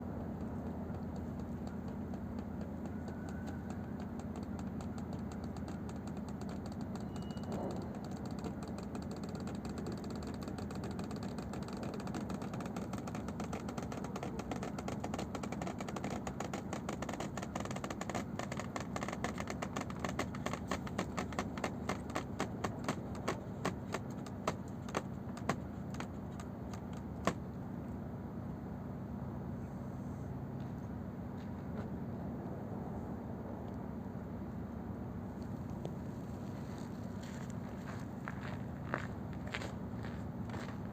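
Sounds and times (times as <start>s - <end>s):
ship hull creaking and clicking: 0.0s - 27.6s, 35.4s - 40.9s
steady low hum: 0.0s - 40.9s.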